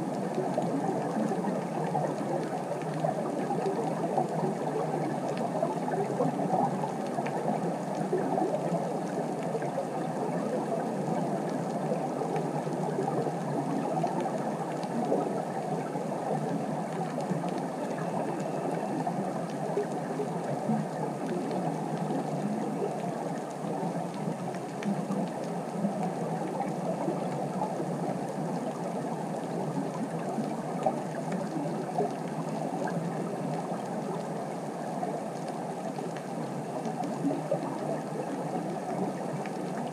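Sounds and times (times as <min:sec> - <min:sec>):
muffled underwater crackle: 0:00.0 - 0:39.9.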